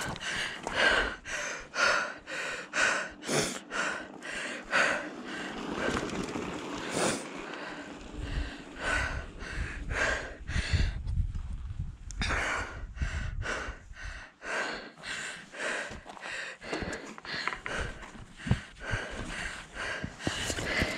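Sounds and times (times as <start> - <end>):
person breathing hard: 0.0 - 6.0, 6.8 - 11.1, 12.2 - 20.9.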